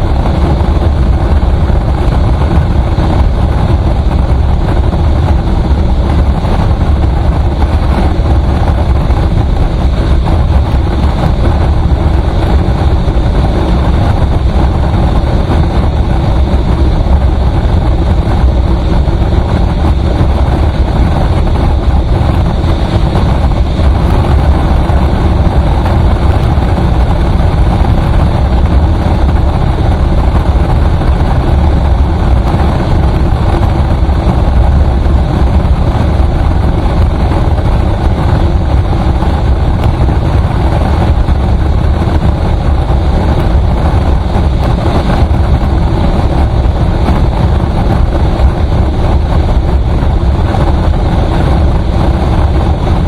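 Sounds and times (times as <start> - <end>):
road vehicle rumble: 0.0 - 53.0.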